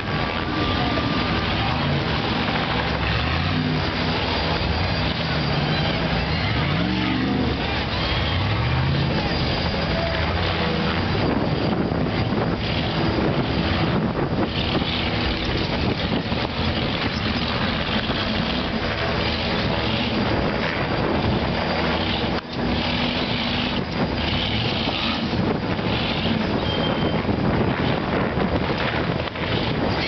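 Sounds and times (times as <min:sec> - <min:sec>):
buggy engines under load: 0:00.0 - 0:30.0
helicopter rotor droning: 0:00.0 - 0:30.0
wind on microphone: 0:00.0 - 0:30.0.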